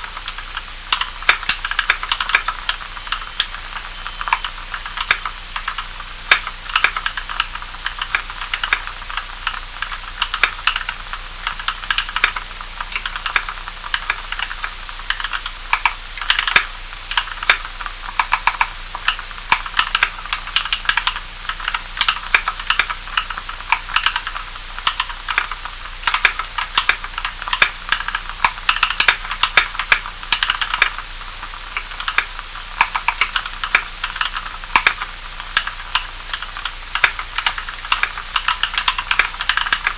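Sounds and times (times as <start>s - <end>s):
steady hiss: 0.0s - 39.9s
mechanical keyboard typing: 0.3s - 31.0s, 31.7s - 39.9s.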